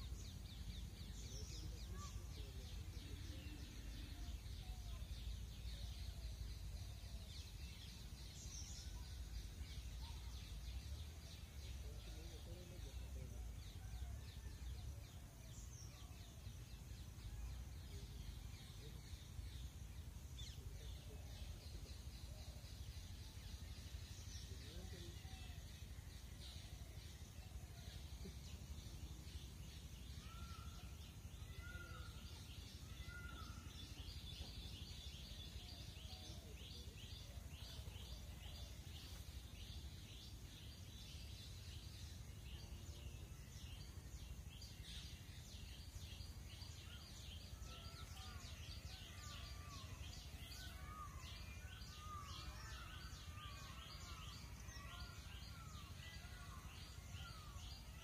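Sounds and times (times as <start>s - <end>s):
small birds chirping and whistling: 0.0s - 58.0s.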